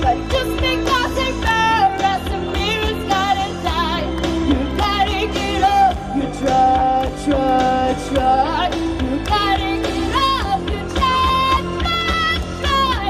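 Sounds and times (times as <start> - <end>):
band with bass drums and guitar: 0.0 - 13.0
woman singing: 0.0 - 13.0.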